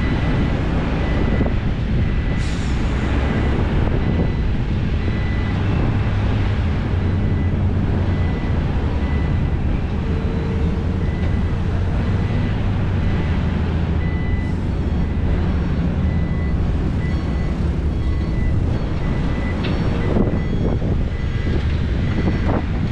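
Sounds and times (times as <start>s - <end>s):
heavy diesel engines running: 0.0s - 22.9s
reversing alarm beeping: 0.0s - 22.9s.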